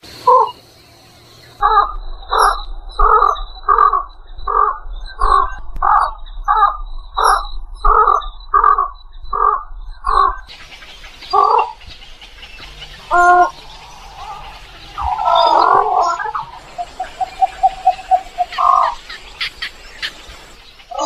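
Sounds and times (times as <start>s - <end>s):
bird harsh calls: 0.0s - 21.0s.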